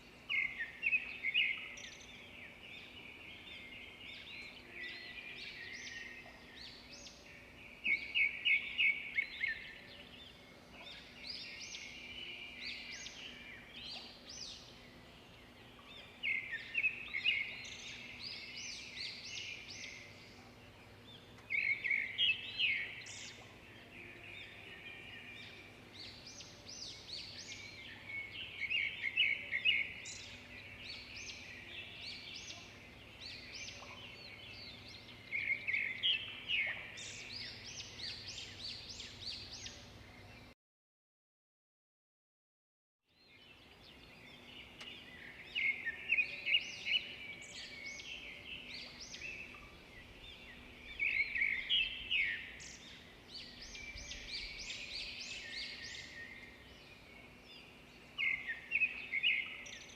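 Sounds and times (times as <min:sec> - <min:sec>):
songbird chirping phrase: 0:00.0 - 0:40.6, 0:43.1 - 0:59.9.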